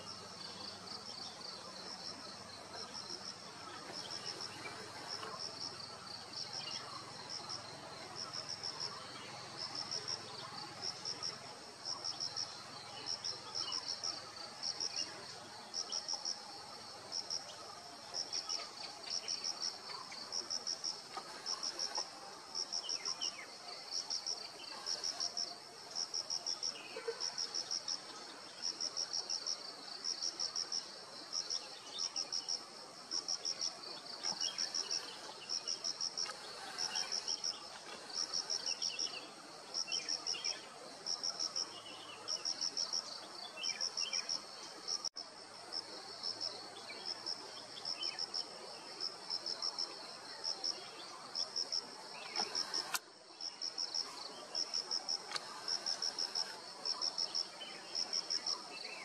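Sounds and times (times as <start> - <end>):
insect chirping: 0.0 - 59.0.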